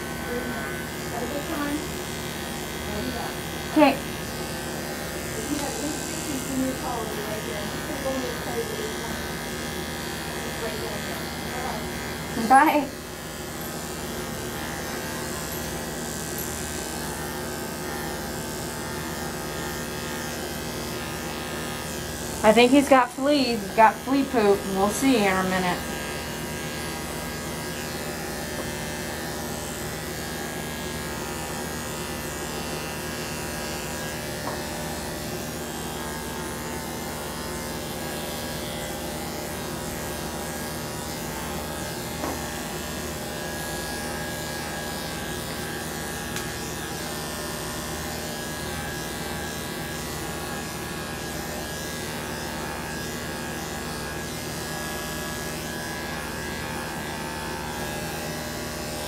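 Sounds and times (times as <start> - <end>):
electric clippers humming: 0.0 - 59.0.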